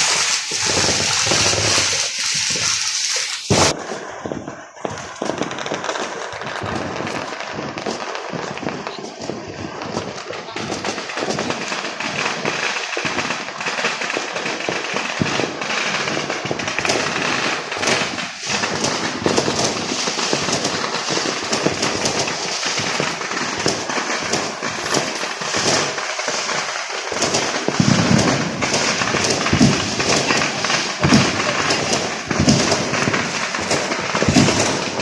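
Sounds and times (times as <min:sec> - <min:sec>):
deep firework booms: 0:00.0 - 0:35.0
firecrackers crackling: 0:00.0 - 0:35.0.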